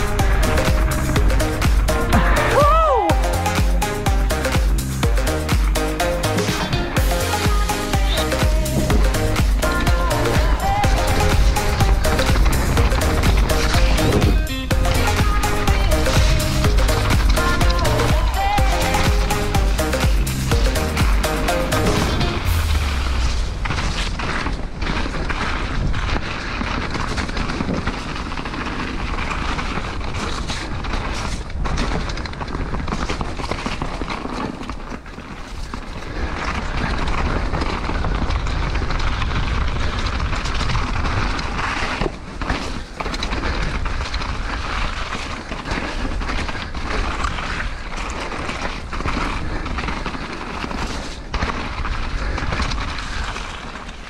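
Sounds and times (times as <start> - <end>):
bike knocks and rattles: 0.0 - 54.0
tyres crunching on loose stones: 0.0 - 54.0.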